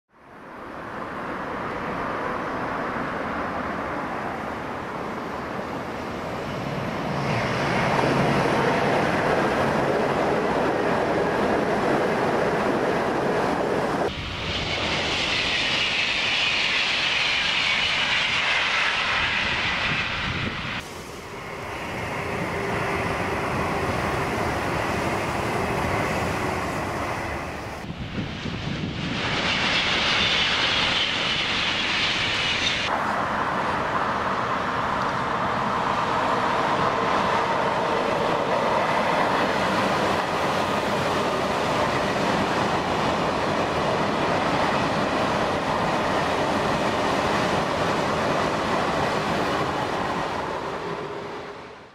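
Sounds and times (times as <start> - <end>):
electric train passing at speed: 0.1 - 51.9.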